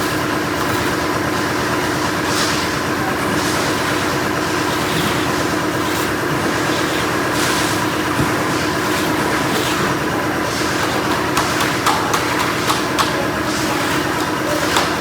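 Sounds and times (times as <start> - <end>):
machine engine humming: 0.0 - 15.0.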